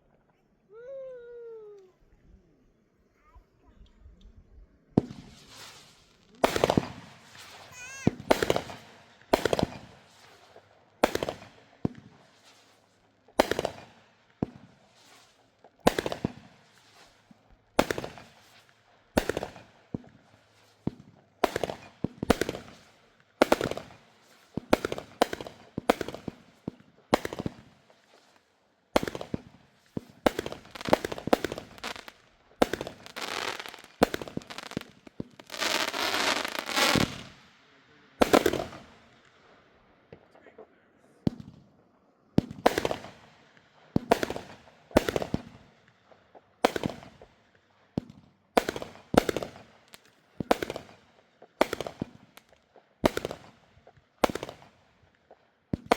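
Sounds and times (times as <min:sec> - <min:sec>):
fireworks bangs: 0:05.0 - 0:40.3, 0:41.2 - 0:41.7, 0:42.4 - 0:46.0, 0:46.6 - 0:47.4, 0:48.0 - 0:54.8
fireworks crackling: 0:05.0 - 0:40.3, 0:42.4 - 0:55.9.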